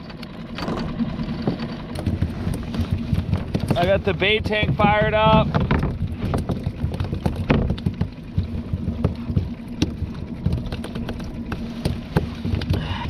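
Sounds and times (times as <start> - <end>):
boat motor hum: 0.0 - 13.0
knocks and clicks of gear: 0.0 - 13.0
low rumble: 0.0 - 13.0.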